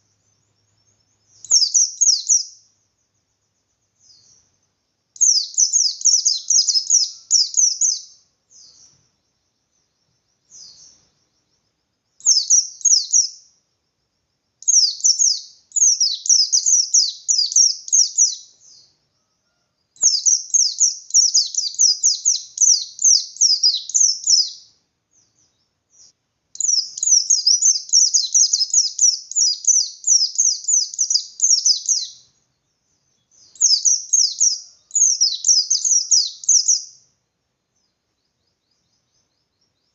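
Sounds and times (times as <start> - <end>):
bird singing rapid chirps: 0.0 - 4.6, 5.2 - 13.6, 14.6 - 19.0, 19.9 - 37.1.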